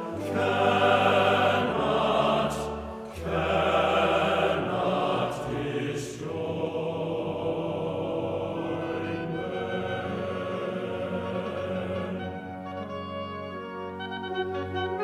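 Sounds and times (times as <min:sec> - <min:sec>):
background music of sustained chords: 0:00.0 - 0:15.0.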